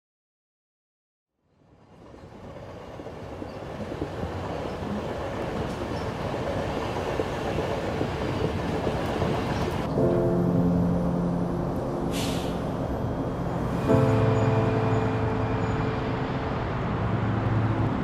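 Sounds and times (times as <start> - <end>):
train rumbling on rails: 1.6 - 10.3, 11.4 - 18.0.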